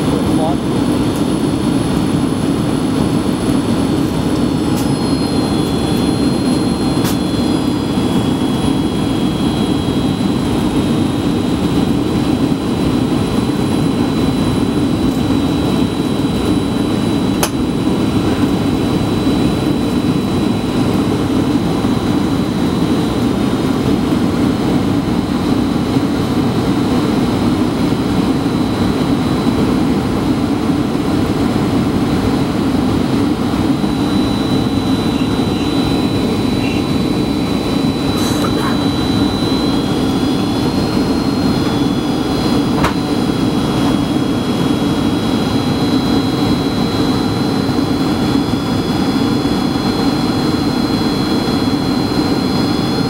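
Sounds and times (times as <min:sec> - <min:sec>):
faint high whine: 0:00.0 - 0:26.1, 0:32.3 - 0:53.0
jet engines and airflow roar: 0:00.0 - 0:53.0.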